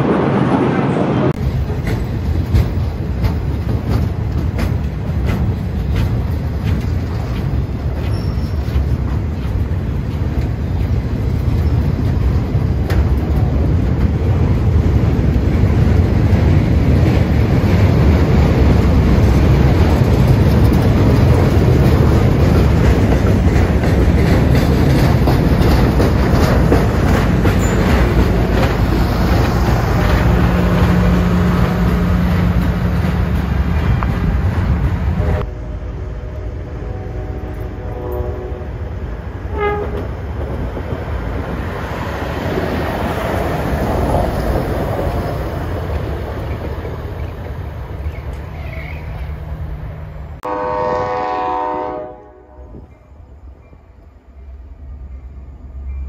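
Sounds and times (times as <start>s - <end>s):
train wheels rumbling on track: 0.0s - 56.0s
wheels clacking over rail joints: 1.4s - 35.5s, 39.0s - 50.4s.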